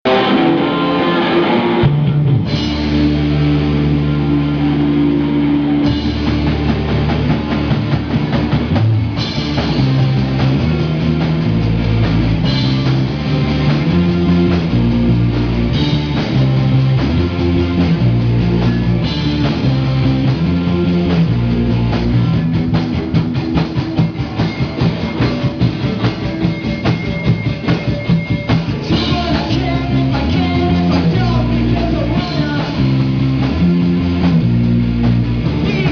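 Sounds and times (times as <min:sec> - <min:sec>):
bass: 0:00.0 - 0:35.9
drum kit: 0:00.0 - 0:35.9
electric guitar: 0:00.0 - 0:35.9.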